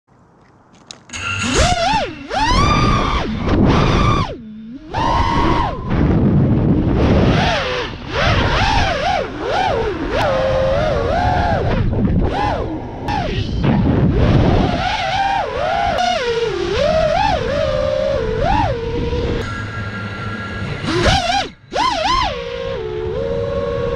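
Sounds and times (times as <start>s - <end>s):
wind buffeting microphone: 0.4s - 23.9s
drone motors whining: 1.1s - 13.5s, 14.7s - 23.9s.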